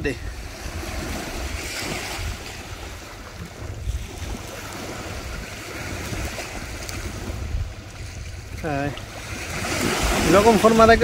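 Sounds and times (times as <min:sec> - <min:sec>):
surf washing on beach: 0:00.0 - 0:11.0
wind on microphone: 0:00.0 - 0:11.0.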